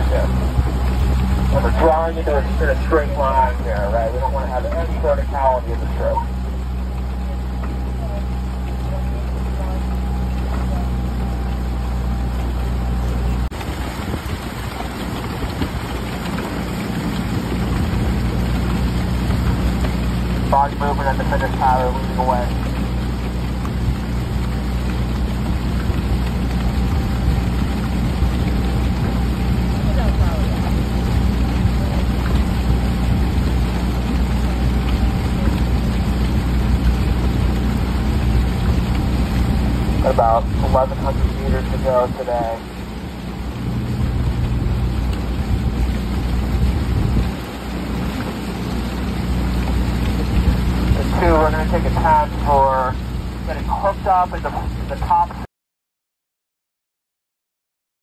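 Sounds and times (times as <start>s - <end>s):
motorboat engine humming: 0.0s - 55.5s
water noise: 0.0s - 55.5s
wind: 0.0s - 55.5s.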